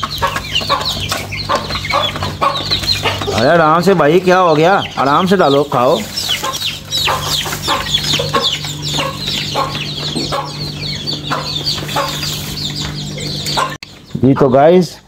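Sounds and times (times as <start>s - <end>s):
steady low hum: 0.0s - 14.3s
chickens clucking: 0.0s - 15.0s
chicks peeping: 0.0s - 15.0s.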